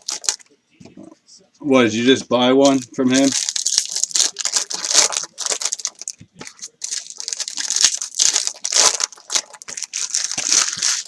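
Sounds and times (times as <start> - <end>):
foil wrappers crinkling and tearing: 0.0 - 0.5, 2.6 - 11.0.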